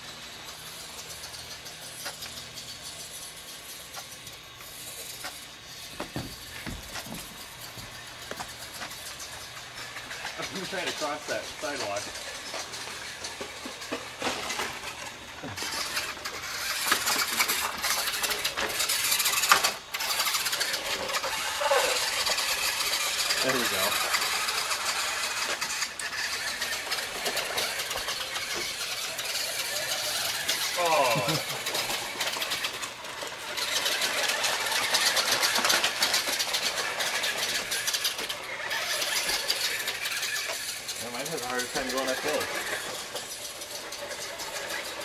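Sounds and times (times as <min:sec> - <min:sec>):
electric toy car motors whirring: 0:00.0 - 0:45.0.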